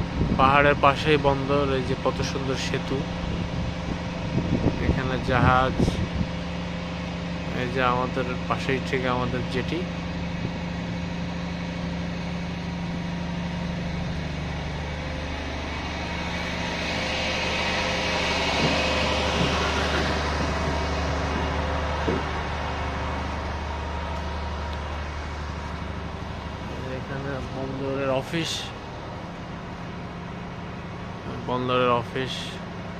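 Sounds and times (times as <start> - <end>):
ship machinery hum: 0.0 - 32.9.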